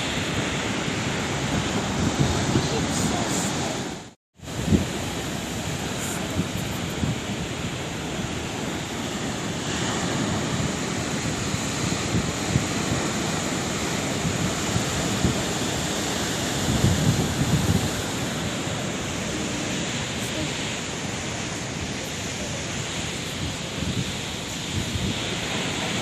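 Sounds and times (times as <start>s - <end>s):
sea waves breaking on shore: 0.0s - 26.0s
wind rumble on microphone: 0.0s - 26.0s.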